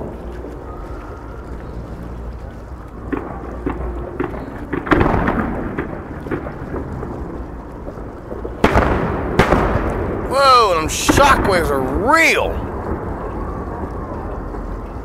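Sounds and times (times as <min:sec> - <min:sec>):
fireworks low rumble: 0:00.0 - 0:15.0
fireworks bangs and crackling: 0:02.7 - 0:15.0.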